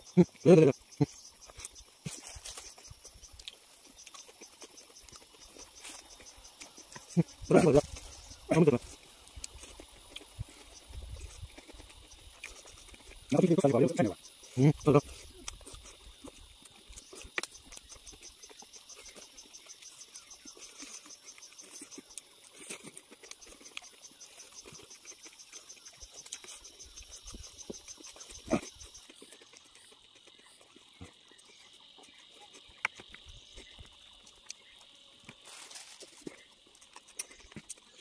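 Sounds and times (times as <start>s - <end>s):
insects buzzing: 0.0s - 38.0s
pulsing insect trill: 0.0s - 38.0s
clicks and smacks of eating: 0.2s - 13.6s, 14.6s - 38.0s.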